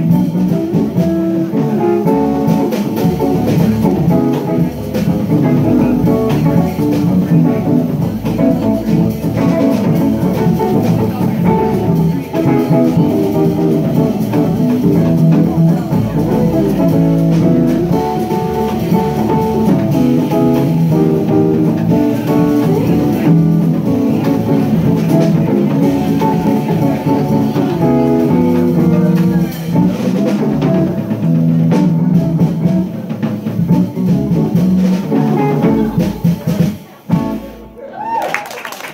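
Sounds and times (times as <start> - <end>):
bass: 0.0 - 38.9
drums: 0.0 - 38.9
electric guitar: 0.0 - 38.9.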